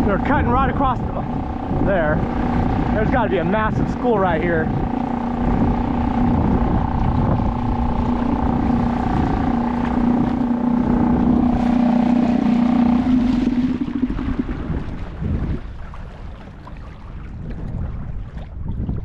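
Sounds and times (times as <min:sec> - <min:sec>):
boat motor whining hum: 0:00.0 - 0:19.0
water noise: 0:00.0 - 0:19.0
wind: 0:00.0 - 0:19.0.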